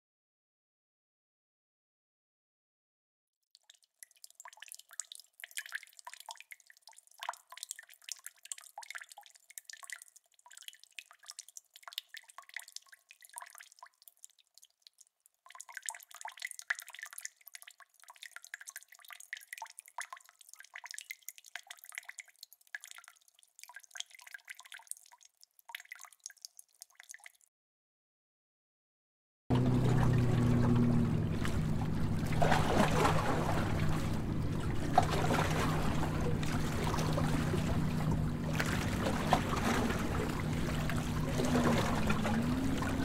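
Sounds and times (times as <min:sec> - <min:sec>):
water dripping and trickling: 0:03.5 - 0:27.5, 0:29.5 - 0:43.0.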